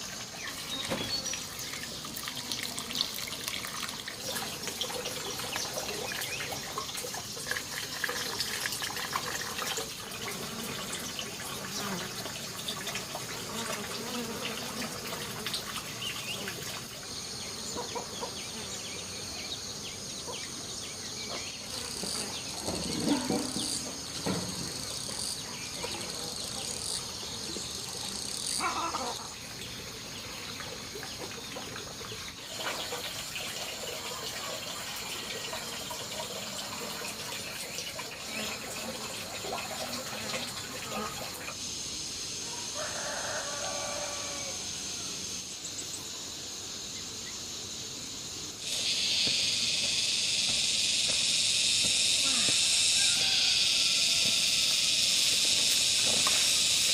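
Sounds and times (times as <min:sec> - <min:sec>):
insects shrilling: 0:00.0 - 0:56.9.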